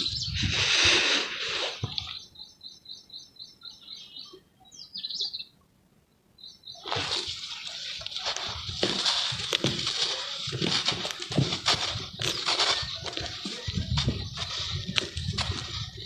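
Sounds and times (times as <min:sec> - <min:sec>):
bird chirping: 0:00.0 - 0:00.6, 0:01.5 - 0:16.0.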